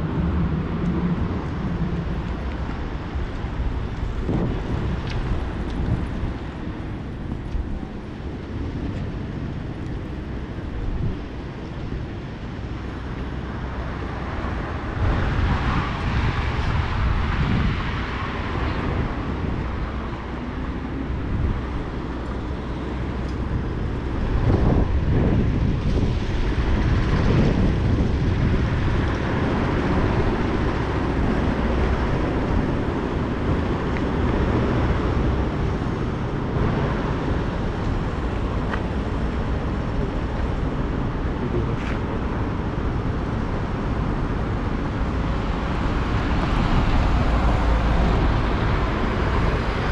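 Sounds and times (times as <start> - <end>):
steady low rumble: 0.0 - 49.9
vehicles passing on wet road: 0.0 - 49.9.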